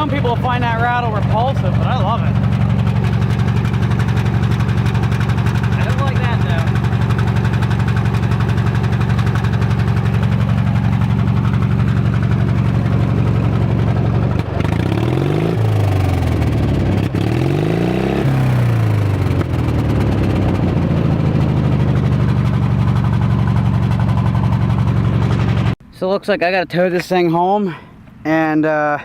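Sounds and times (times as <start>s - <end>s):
lawn tractor engine rattling: 0.0s - 25.8s.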